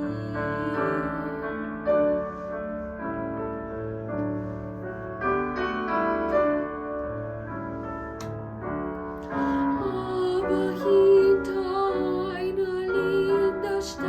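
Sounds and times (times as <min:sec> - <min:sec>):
piano accompaniment: 0:00.0 - 0:14.0.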